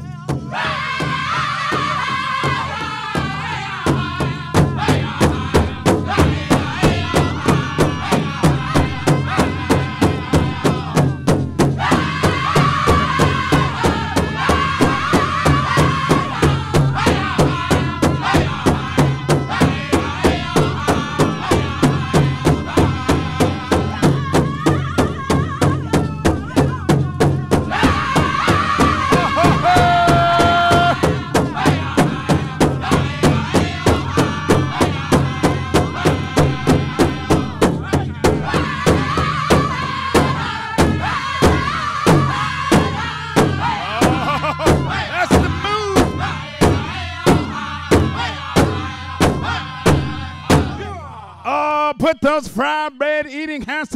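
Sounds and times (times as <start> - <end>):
big drum beating steadily: 0.0 - 51.2
group of men singing: 0.0 - 52.2.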